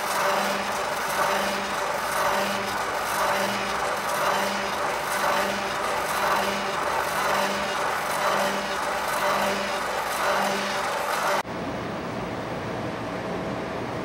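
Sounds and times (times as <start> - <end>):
motors driving carriage: 0.0 - 11.4.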